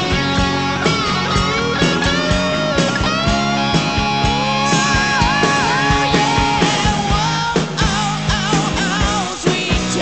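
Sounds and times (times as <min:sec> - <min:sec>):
rock music: 0:00.0 - 0:10.0.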